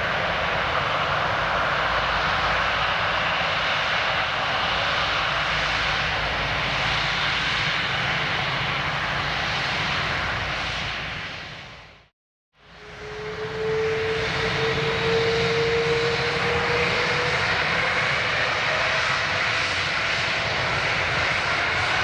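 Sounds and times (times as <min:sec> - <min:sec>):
jet engines roaring: 0:00.0 - 0:11.7, 0:12.6 - 0:22.0.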